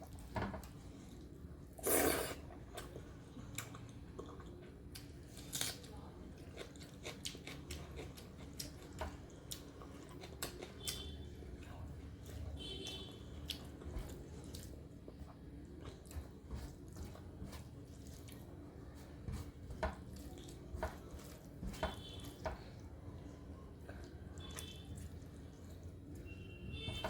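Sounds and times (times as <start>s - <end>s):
chewing: 0.0s - 22.8s.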